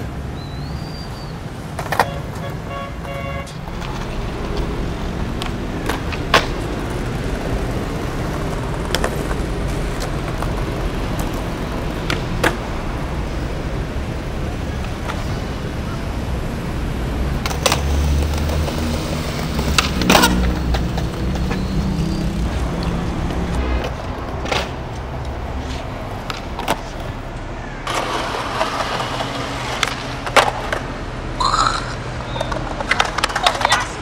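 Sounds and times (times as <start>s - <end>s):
city traffic rumble: 0.0s - 34.0s.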